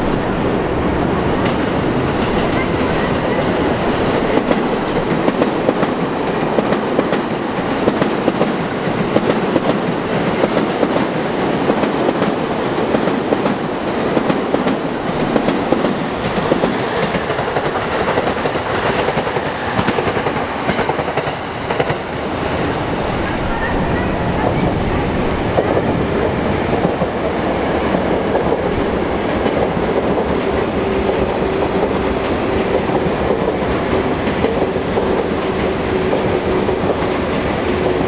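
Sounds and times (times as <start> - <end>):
electric trains rumbling past: 0.0 - 38.0.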